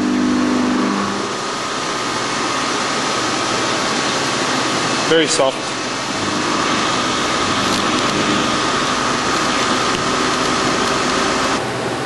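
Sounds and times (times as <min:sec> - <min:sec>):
milling machine cutting: 0:00.0 - 0:11.6.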